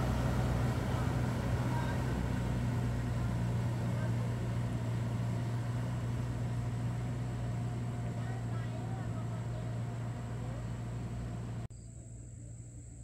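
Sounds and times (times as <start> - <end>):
truck engine droning: 0.0 - 11.7.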